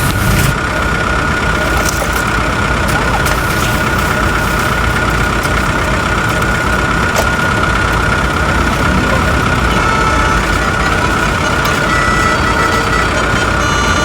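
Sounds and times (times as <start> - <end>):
constant high whine: 0.0 - 14.0
toy truck rumble: 0.0 - 14.0.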